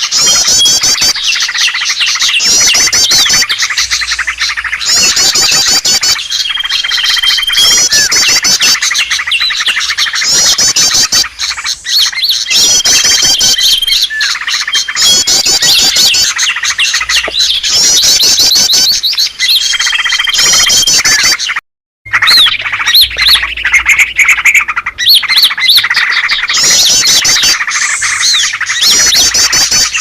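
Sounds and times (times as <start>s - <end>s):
chorus of small birds chirping: 0.0s - 30.0s.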